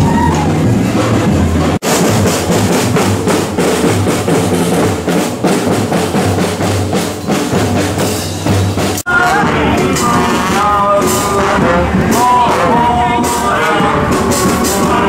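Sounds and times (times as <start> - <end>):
bass drums: 0.0 - 15.0
marching snare drums: 0.1 - 15.0.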